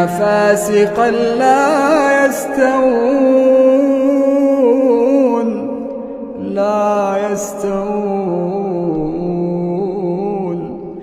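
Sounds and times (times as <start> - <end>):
person reciting melodically: 0.0 - 11.0.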